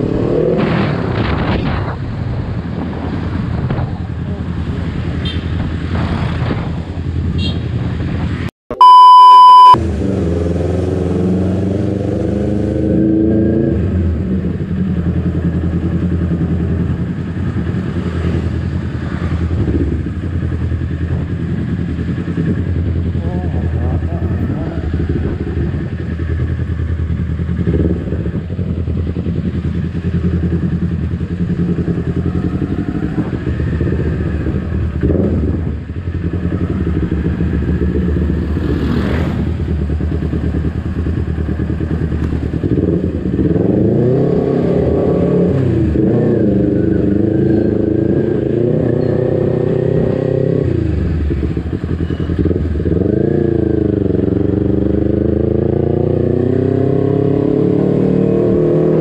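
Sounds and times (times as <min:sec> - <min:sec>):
motorcycle engine revving: 0:09.6 - 0:59.0.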